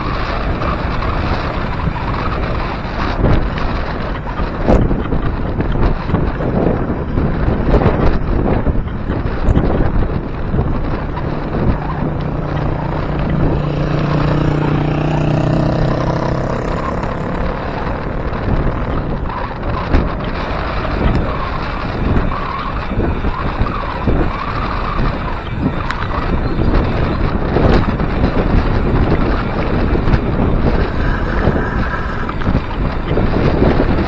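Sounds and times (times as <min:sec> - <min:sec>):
vehicle engine droning: 0:00.0 - 0:34.0
wind rushing over microphone: 0:00.0 - 0:34.0.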